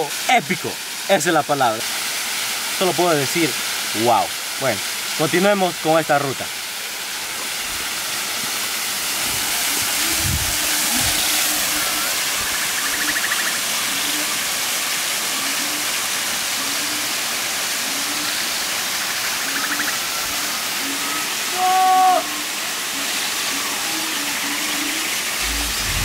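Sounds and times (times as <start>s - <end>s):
waterfall splashing into pool: 0.0s - 26.0s.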